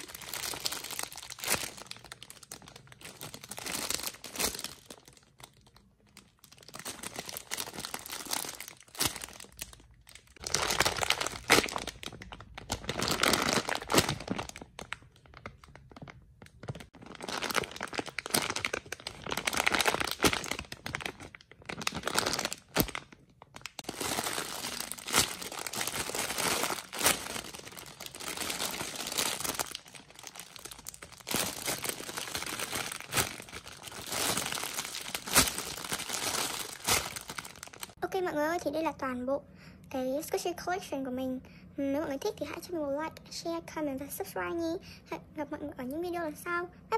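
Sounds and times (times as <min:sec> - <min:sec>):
plastic packaging crinkling: 0:00.0 - 0:38.0.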